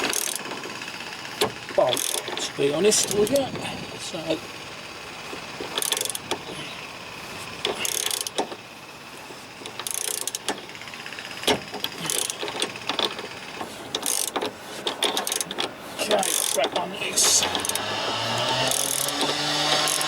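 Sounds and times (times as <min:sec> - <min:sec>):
ratchet spanner clicking: 0:00.0 - 0:03.6, 0:05.3 - 0:06.5, 0:07.5 - 0:20.0.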